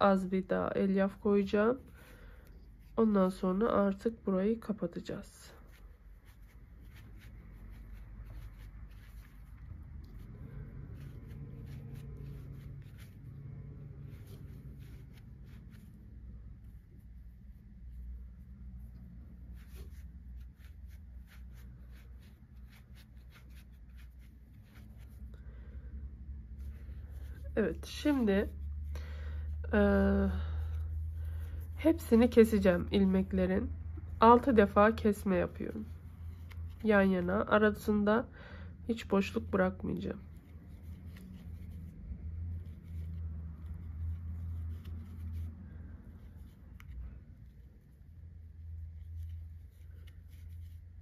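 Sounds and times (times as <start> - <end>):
low steady hum: 0.0 - 51.0
faint rustling: 5.1 - 38.0, 38.9 - 51.0.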